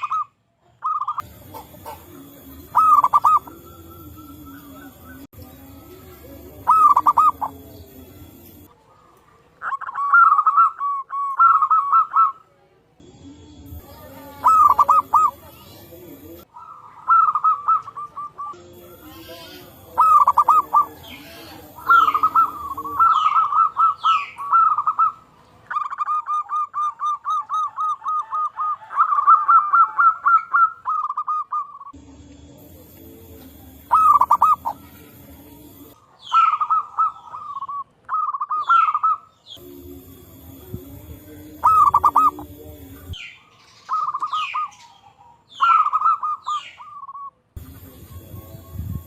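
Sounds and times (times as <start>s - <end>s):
bird chirps: 0.0s - 12.4s, 13.7s - 19.1s, 19.8s - 32.0s, 32.6s - 40.5s, 41.5s - 49.0s
doves cooing: 0.0s - 12.5s, 13.5s - 49.0s.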